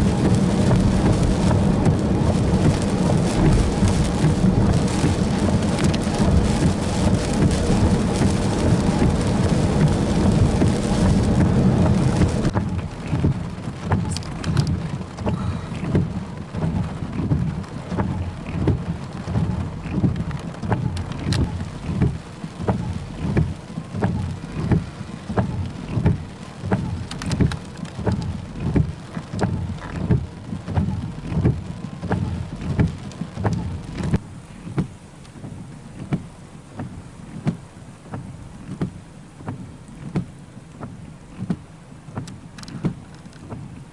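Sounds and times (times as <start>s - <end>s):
rain: 0.0s - 43.9s
raindrops striking a surface: 0.0s - 43.9s.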